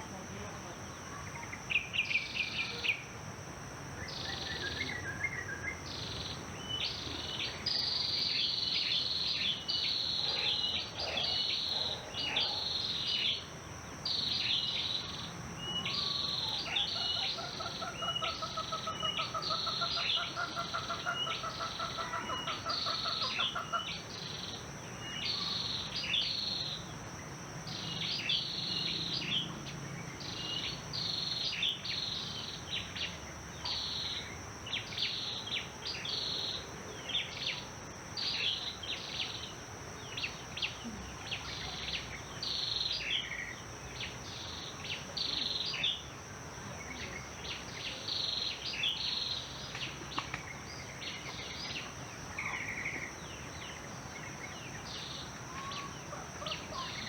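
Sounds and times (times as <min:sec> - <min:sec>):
high insect drone: 0:00.0 - 0:57.0
songbirds chirping: 0:00.0 - 0:57.0.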